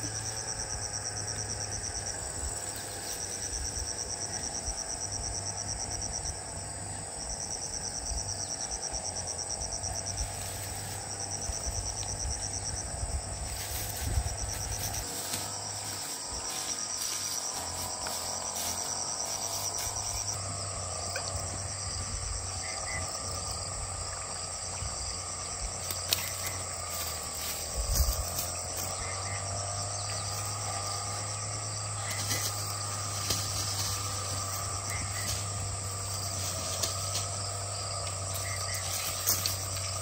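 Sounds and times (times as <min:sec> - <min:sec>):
crickets and insects chirping: 0:00.0 - 0:40.0.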